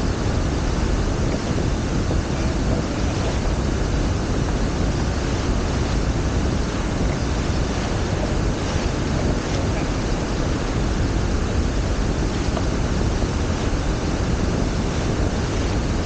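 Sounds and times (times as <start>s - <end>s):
water rushing along hulls: 0.0s - 16.0s
wind buffeting microphone: 0.0s - 16.0s.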